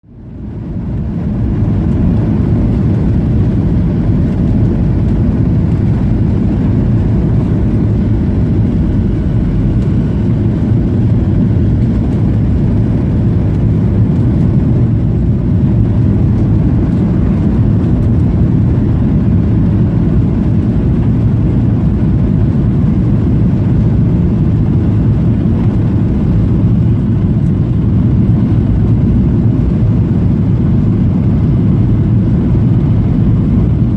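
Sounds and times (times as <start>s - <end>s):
airliner engines rumbling: 0.0s - 33.9s.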